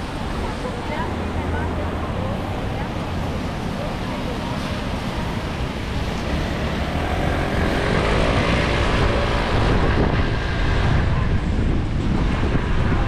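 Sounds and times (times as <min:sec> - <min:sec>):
passing vehicle engine drone: 0:00.0 - 0:13.0
wind buffeting microphone: 0:00.0 - 0:13.0.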